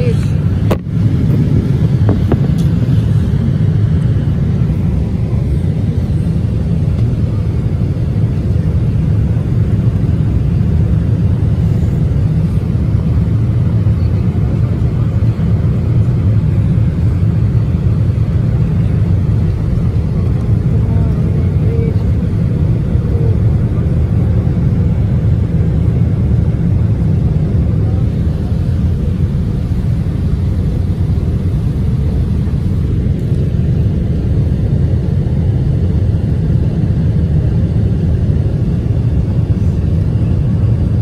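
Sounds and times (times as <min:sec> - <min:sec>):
jet airliner cabin rumble: 0:00.0 - 0:41.0.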